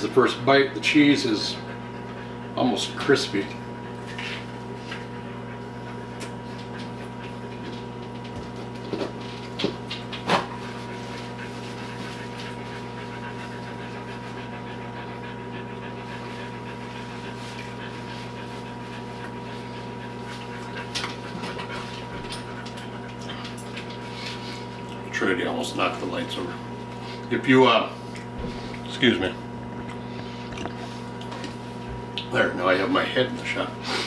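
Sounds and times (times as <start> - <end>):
dog panting: 0.0 - 29.4
steady low hum: 0.0 - 34.0.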